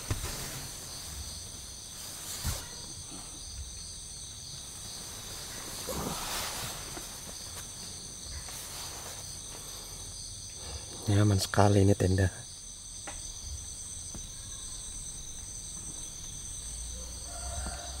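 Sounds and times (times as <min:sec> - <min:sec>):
crickets and insects chirring: 0:00.0 - 0:18.0.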